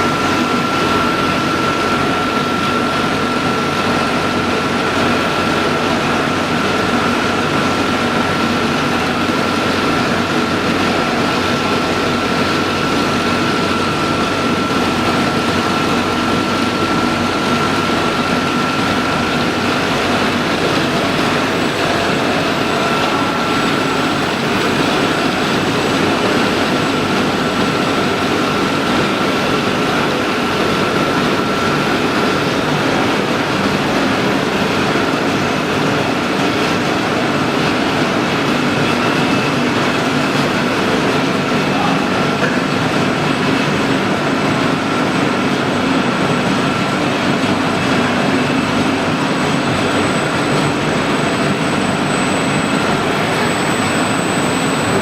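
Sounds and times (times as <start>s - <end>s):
high machine whine: 0.0s - 55.0s
industrial machinery noise: 0.0s - 55.0s.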